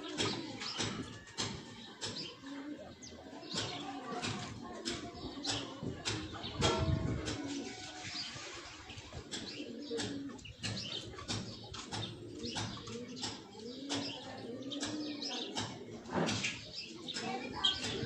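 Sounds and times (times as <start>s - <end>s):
young chickens clucking: 0.0s - 18.0s.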